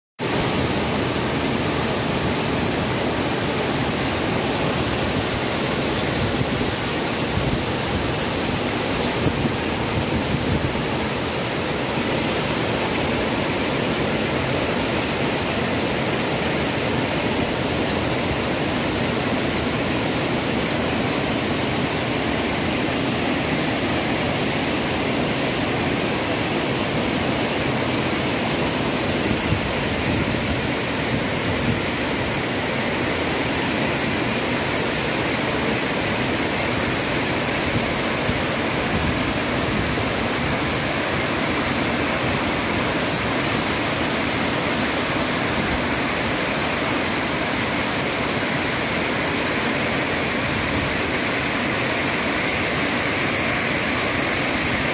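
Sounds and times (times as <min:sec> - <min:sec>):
waterfall rushing: 0:00.2 - 0:54.9.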